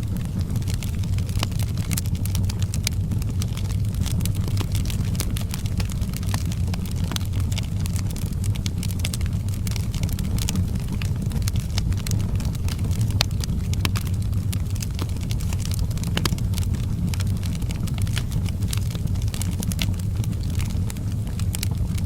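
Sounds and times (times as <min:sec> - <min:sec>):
low rumble of fire: 0:00.0 - 0:22.0
wood fire crackling: 0:00.0 - 0:22.0.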